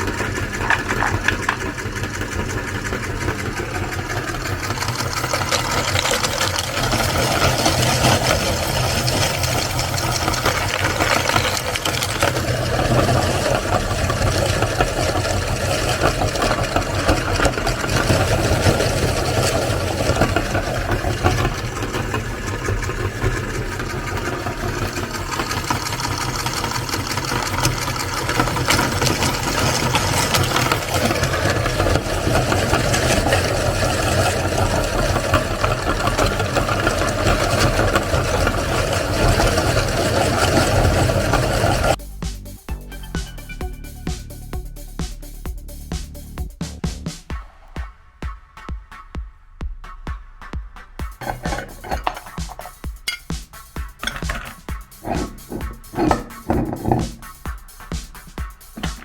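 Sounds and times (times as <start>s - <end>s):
meat grinder motor running: 0.0s - 42.0s, 51.2s - 59.0s.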